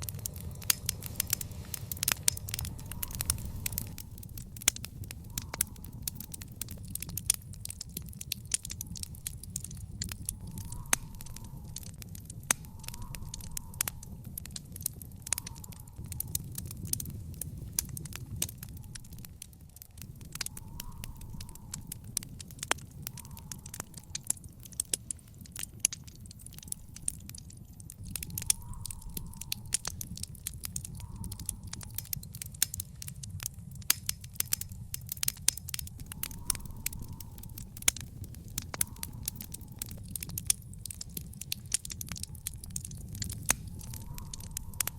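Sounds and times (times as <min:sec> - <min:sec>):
fire crackling and popping: 0:00.0 - 0:44.9
low rumble of flame: 0:00.0 - 0:44.9.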